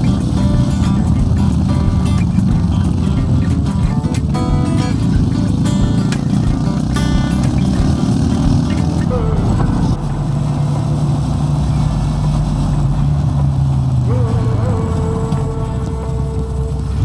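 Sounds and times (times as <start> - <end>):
motorcycle engine running: 0.0 - 14.1.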